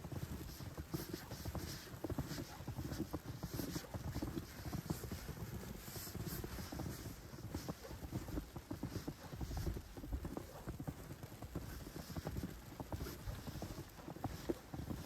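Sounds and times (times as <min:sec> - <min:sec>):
footsteps on snow: 0:00.1 - 0:15.0.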